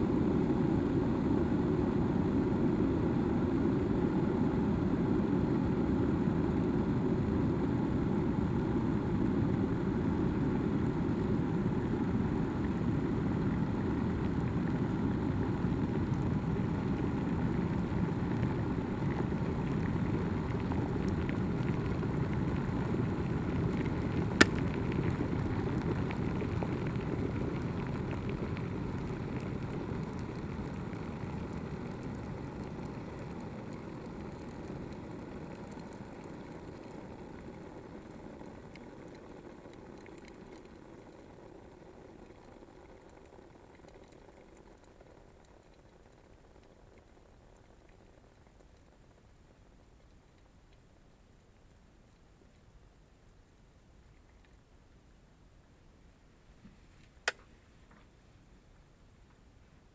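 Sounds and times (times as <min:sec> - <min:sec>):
kettle water boiling: 0:00.1 - 0:51.7.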